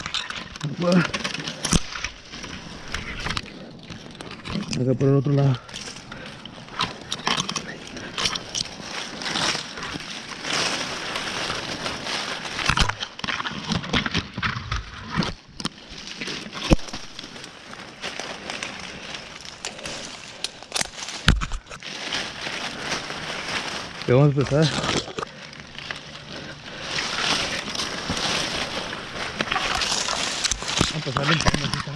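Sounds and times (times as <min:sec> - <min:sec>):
rope rustling and clicking: 0:00.0 - 0:31.9.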